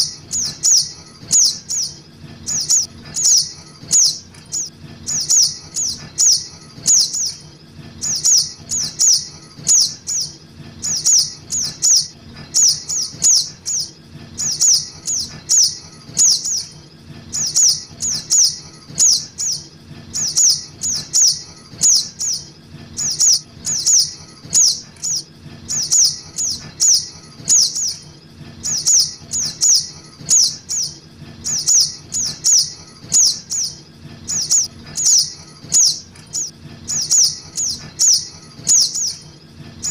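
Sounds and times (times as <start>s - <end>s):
high thin bird chirps: 0.0s - 28.0s, 28.6s - 39.9s.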